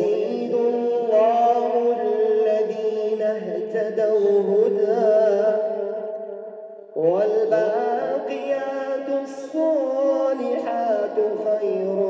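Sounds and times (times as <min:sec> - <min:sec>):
man chanting: 0:00.0 - 0:06.0, 0:07.0 - 0:12.0.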